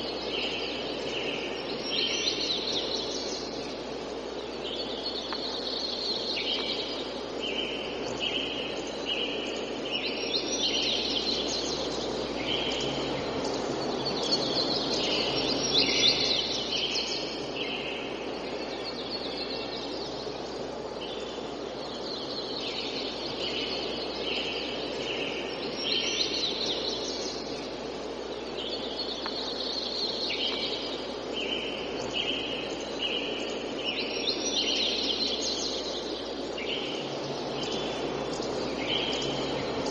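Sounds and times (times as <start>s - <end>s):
birds chattering: 0.0s - 39.9s
forest ambience hiss: 0.0s - 39.9s.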